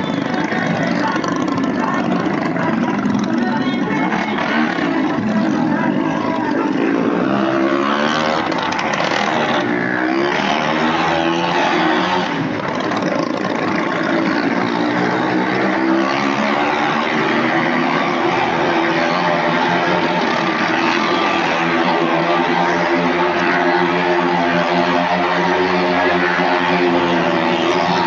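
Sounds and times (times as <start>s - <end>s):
stunt vehicle engines revving: 0.0s - 28.0s.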